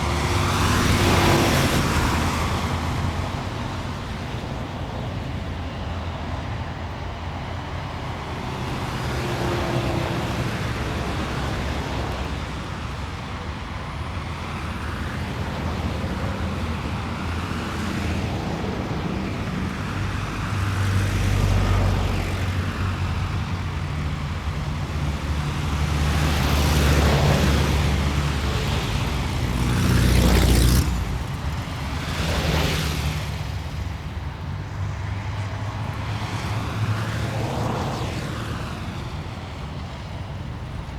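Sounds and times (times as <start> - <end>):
cars passing: 0.0 - 40.9
traffic rumble: 0.0 - 40.9.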